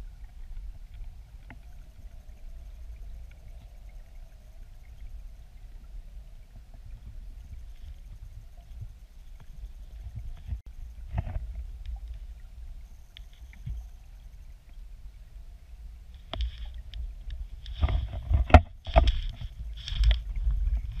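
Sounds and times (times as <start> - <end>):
muffled underwater river rumble: 0.0 - 21.0.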